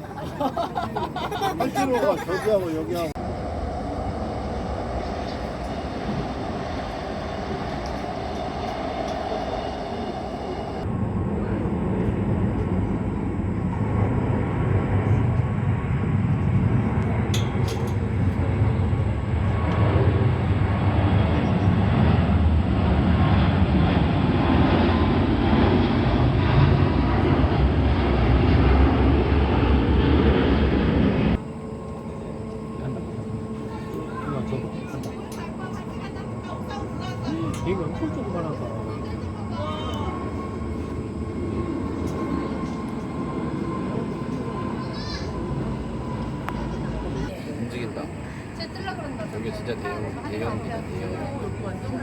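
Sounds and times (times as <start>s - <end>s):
jet engine low rumble: 0.0s - 52.0s.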